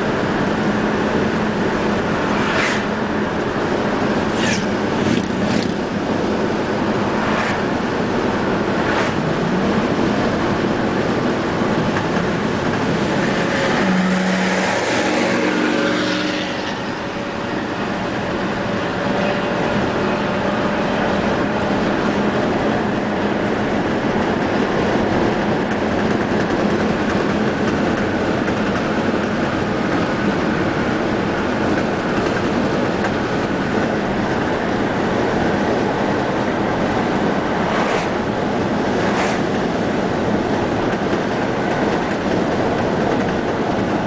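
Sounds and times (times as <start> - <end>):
car cabin road noise: 0.0 - 44.0.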